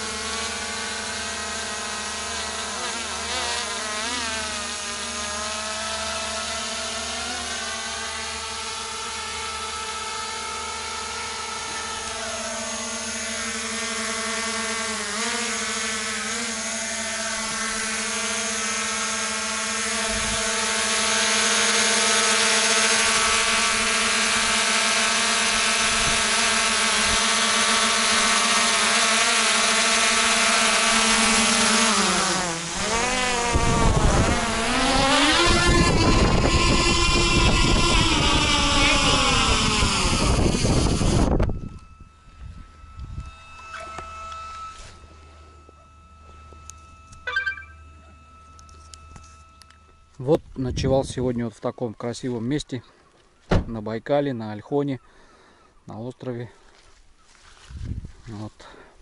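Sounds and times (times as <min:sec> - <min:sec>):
drone propellers buzzing: 0:00.0 - 0:51.2.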